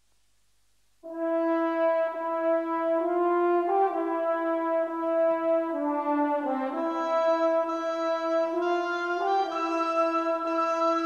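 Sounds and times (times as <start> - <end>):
background music of held chords: 1.0 - 11.0.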